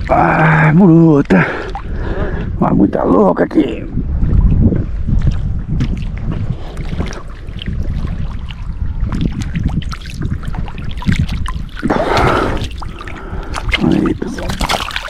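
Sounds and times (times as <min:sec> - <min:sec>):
water splashing and sloshing: 0:00.0 - 0:15.0
wind buffeting microphone: 0:00.0 - 0:15.0.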